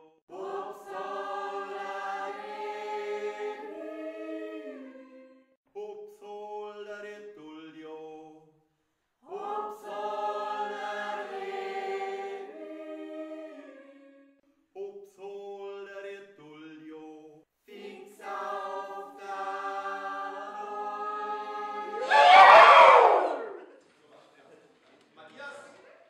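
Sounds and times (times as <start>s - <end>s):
group singing a yodel: 0.3s - 8.5s, 9.2s - 23.7s.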